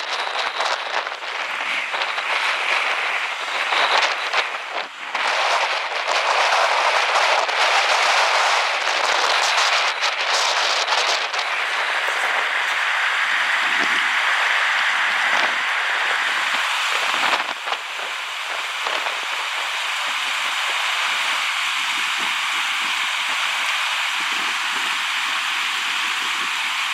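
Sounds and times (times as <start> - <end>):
water rushing hiss: 0.0 - 26.9.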